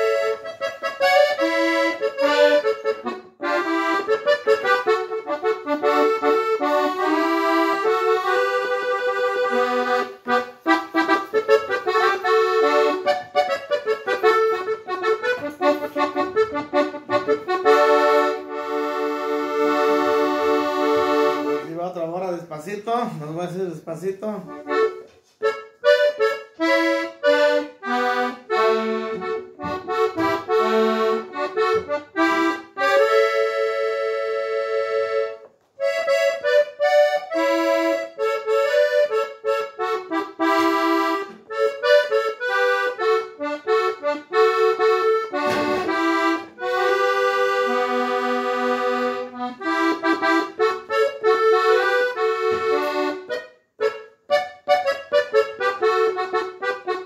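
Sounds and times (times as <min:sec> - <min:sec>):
accordion melody: 0:00.0 - 0:57.0.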